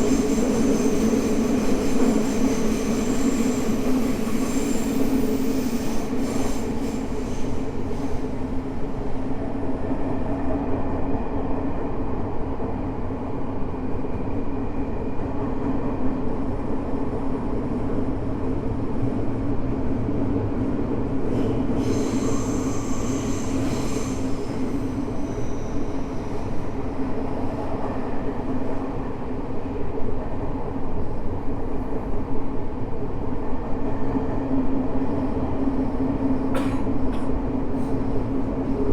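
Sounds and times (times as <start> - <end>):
subway train rumble and hum: 0.0 - 38.9.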